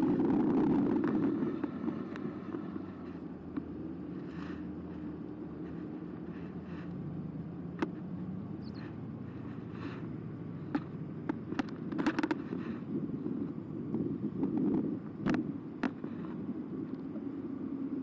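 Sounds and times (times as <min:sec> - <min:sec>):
bike rattling over bumps: 0:00.0 - 0:07.0, 0:07.6 - 0:17.4
electric bike motor and tyres humming: 0:00.0 - 0:18.0.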